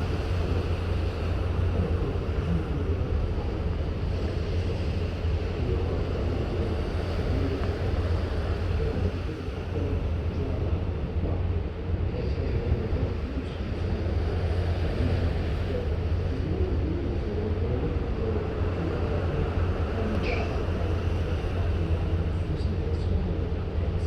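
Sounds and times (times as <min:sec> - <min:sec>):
ship low rumble: 0:00.0 - 0:24.0.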